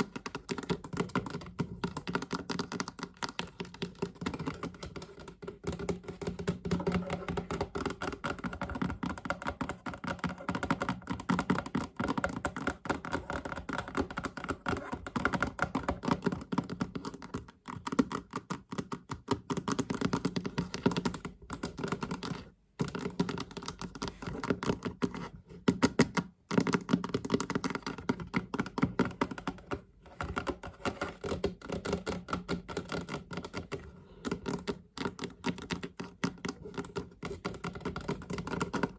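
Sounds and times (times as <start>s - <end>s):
rapid tapping on a chest: 0.0s - 38.9s.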